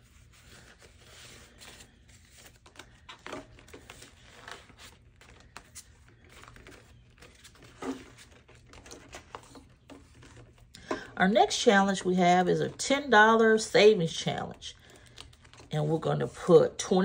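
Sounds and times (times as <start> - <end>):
paper bills rustling: 0.0 - 16.7.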